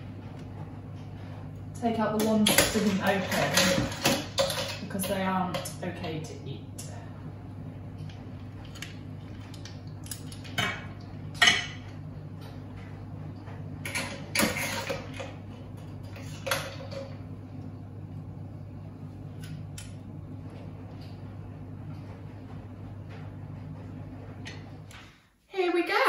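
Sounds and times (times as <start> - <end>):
low hum: 0.0 - 25.1.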